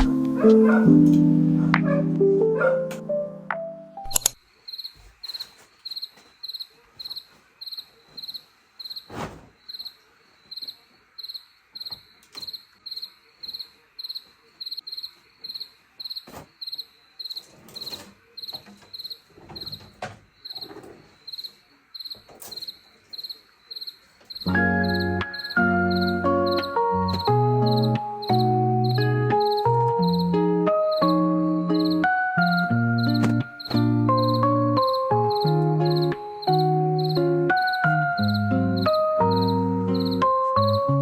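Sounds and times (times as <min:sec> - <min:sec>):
cricket chirping: 0:04.2 - 0:41.0.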